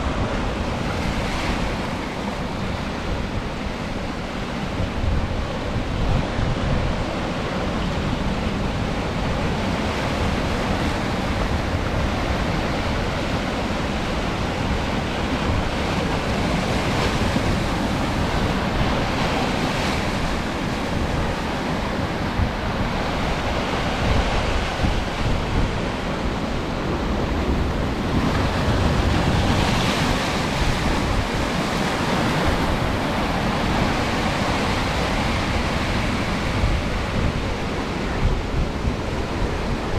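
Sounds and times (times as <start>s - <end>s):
rushing surf: 0.0s - 39.9s
wind buffeting microphone: 0.0s - 39.9s.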